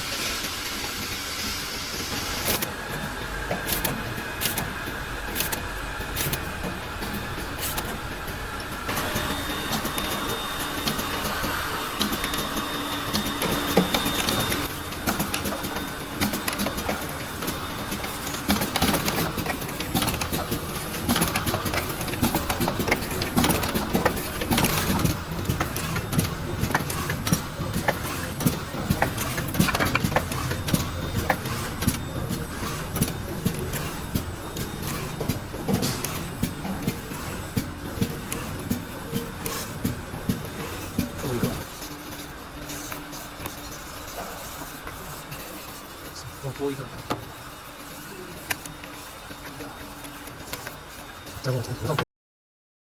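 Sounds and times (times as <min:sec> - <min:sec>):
machine hum: 0:00.0 - 0:51.8.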